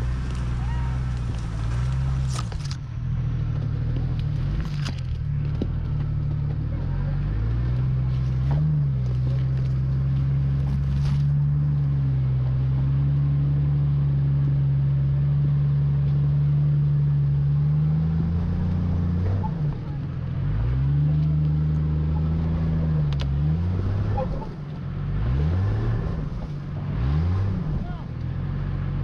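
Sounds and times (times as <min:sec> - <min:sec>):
engine running at low revs: 0:00.0 - 0:29.0.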